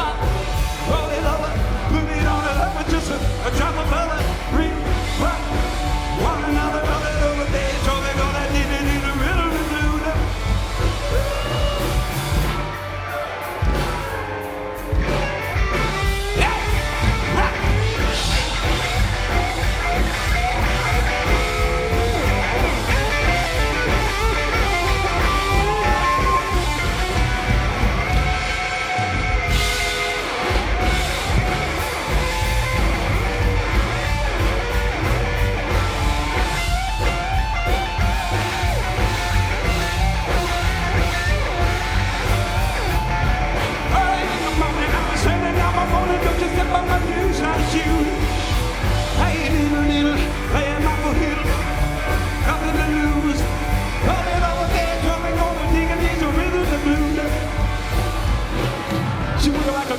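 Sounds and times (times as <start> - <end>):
person singing: 0.0 - 32.5, 35.7 - 58.2
live rock and roll band: 0.0 - 59.9.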